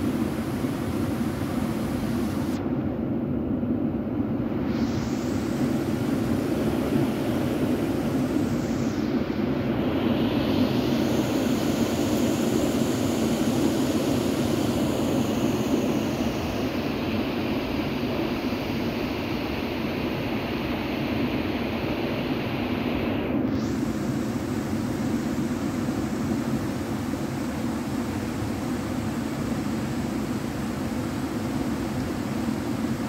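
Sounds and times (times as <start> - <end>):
steady rushing noise: 0.0 - 33.0.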